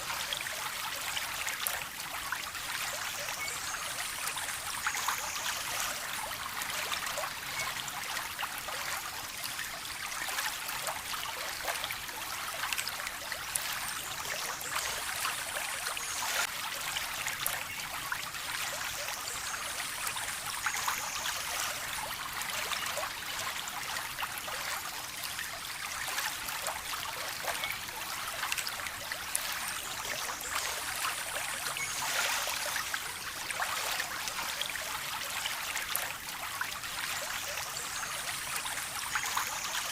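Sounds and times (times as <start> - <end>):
stream water trickling and splashing: 0.0 - 39.9.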